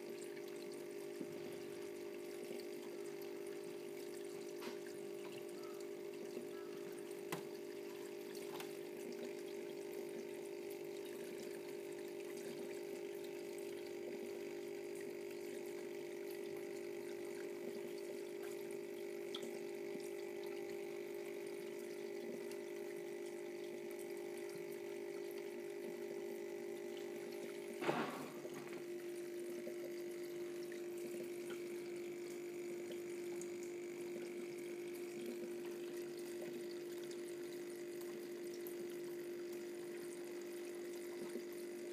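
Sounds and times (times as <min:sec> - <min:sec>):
water pump humming: 0:00.0 - 0:41.9
water trickling: 0:00.0 - 0:41.9.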